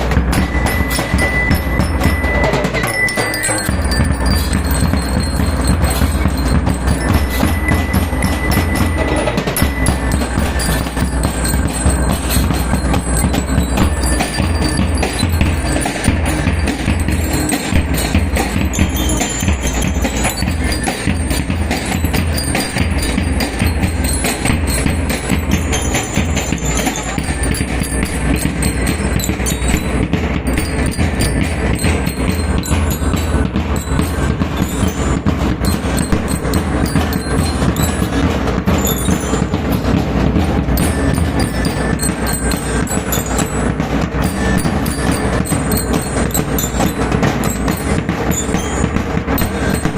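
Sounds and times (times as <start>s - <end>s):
drums beating: 0.0s - 49.9s
metal bell lyres: 0.0s - 49.9s.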